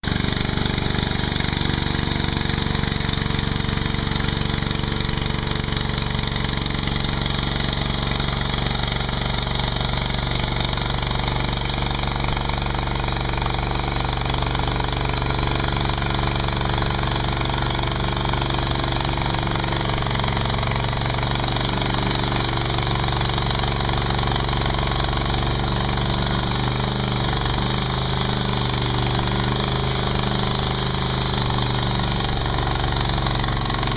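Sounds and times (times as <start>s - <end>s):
skid steer engine running: 0.0s - 33.9s.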